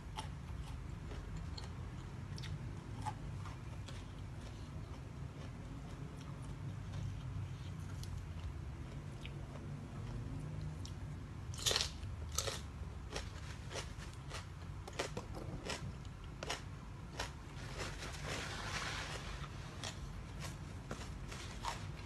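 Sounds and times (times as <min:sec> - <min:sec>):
person chewing crunchy food: 0:00.0 - 0:22.0.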